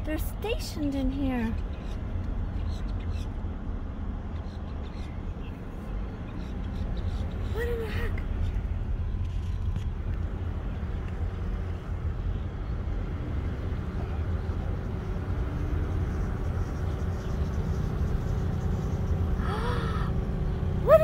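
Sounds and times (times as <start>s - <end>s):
van engine and tyres rumbling: 0.0s - 21.0s.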